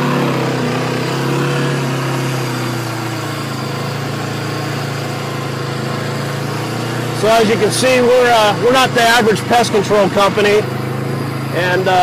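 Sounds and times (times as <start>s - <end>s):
small vehicle engine running: 0.0s - 12.0s.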